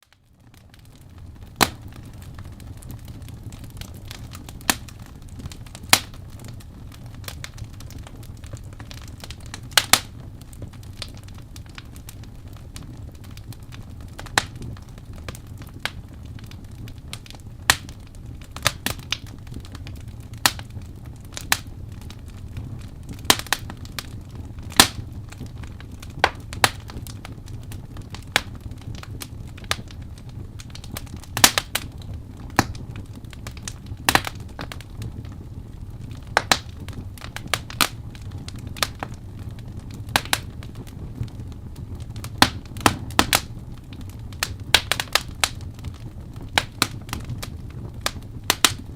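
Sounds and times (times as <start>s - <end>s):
burning wood popping and snapping: 0.0s - 48.9s
low rumble of flames: 0.0s - 48.9s.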